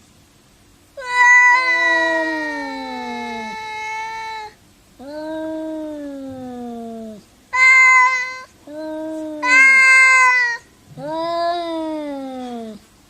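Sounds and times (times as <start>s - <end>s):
cat meowing: 1.0s - 12.8s.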